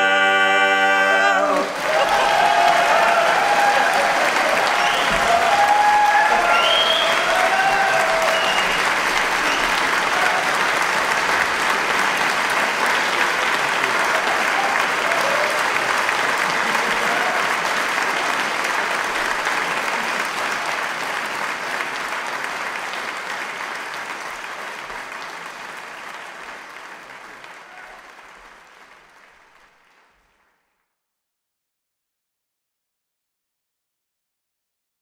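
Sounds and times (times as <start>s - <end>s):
audience applauding: 1.4s - 30.7s.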